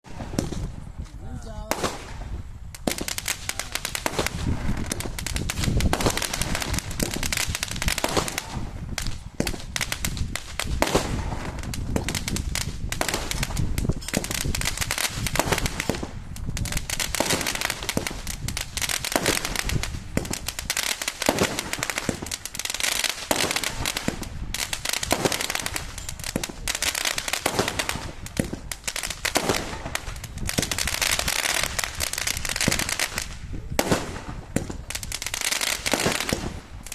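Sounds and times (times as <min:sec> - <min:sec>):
crackling firework pops: 0:00.0 - 0:36.9.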